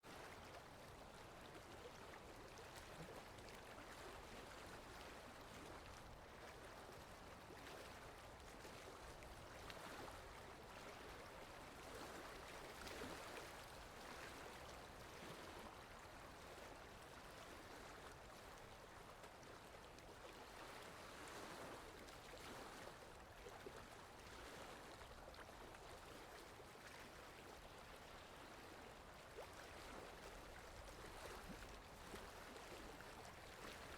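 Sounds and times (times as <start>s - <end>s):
lake water lapping: 0.1s - 33.9s.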